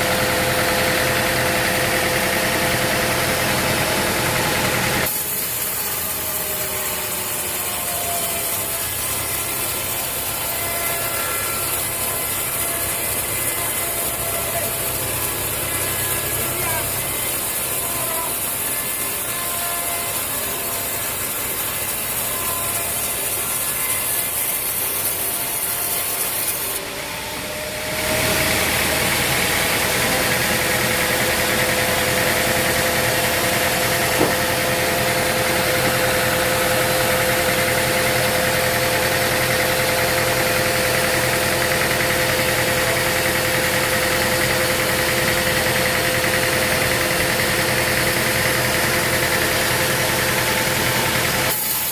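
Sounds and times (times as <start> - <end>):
engine running with whine: 0.0 - 25.3, 26.0 - 51.9
sawmill machinery running: 0.0 - 51.9.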